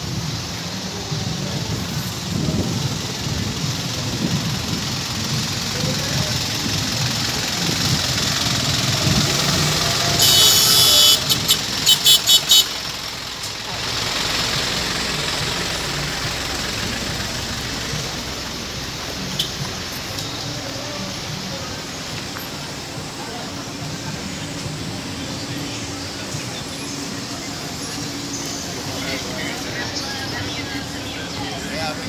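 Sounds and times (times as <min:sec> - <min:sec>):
background voices: 0:00.0 - 0:12.0, 0:12.7 - 0:32.0
engines running: 0:00.0 - 0:32.0.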